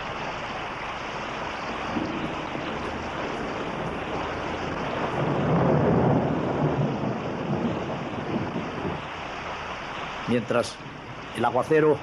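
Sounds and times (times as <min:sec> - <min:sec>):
heavy rain downpour: 0:00.0 - 0:12.0
thunder rolling: 0:00.0 - 0:12.0.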